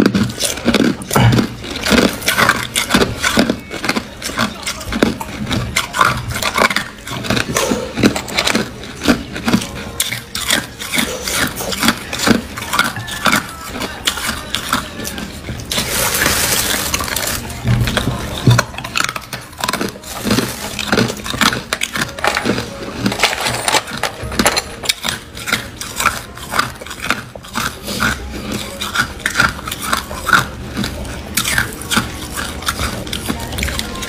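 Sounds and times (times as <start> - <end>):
ice cubes being chewed: 0.0 - 34.0.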